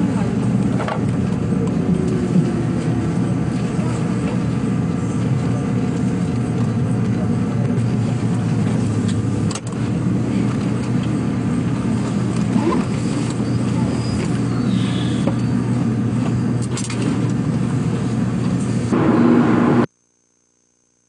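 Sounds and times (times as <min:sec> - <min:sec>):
electric train running rumble: 0:00.0 - 0:19.9.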